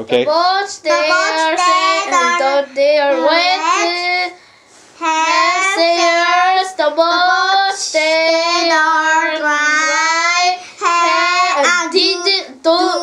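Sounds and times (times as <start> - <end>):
child chanting sing-song: 0.1 - 4.4, 5.0 - 13.0.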